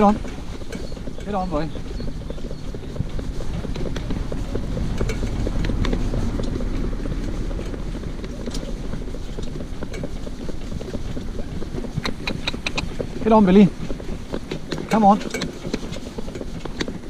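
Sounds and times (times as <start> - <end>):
wind on microphone: 0.0 - 14.0
cart wheels rumbling on road: 0.0 - 17.0
hooves clopping: 0.0 - 17.0.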